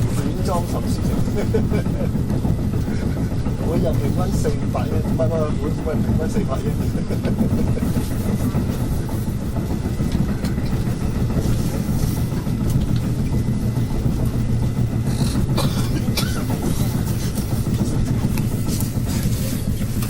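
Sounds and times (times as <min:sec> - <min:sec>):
diesel train rumbling: 0:00.0 - 0:20.0.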